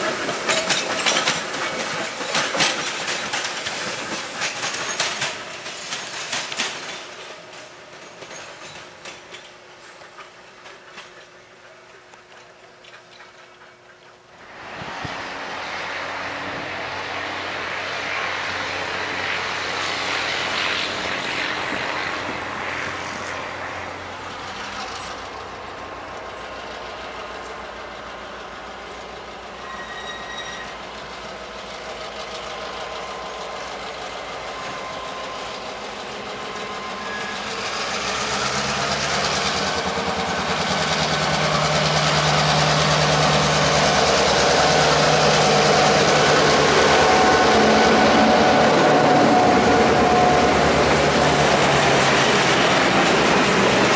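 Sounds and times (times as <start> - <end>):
diesel locomotive engine: 0.0 - 53.9
train wheels rolling: 0.0 - 53.9.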